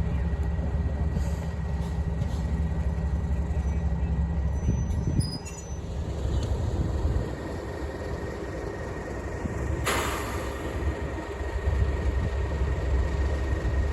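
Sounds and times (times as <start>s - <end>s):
diesel locomotive engine drone: 0.0s - 13.9s
moving train rumble: 0.0s - 13.9s.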